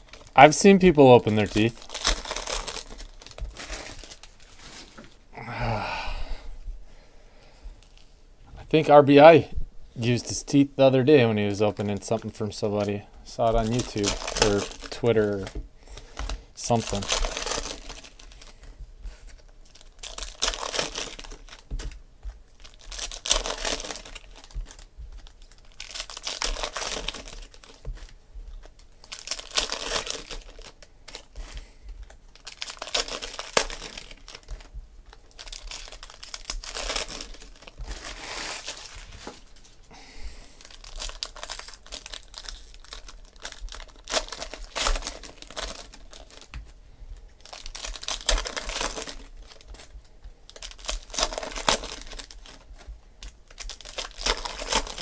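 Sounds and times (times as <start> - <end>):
foil wrappers crinkling: 0.0 - 5.3, 11.2 - 55.0.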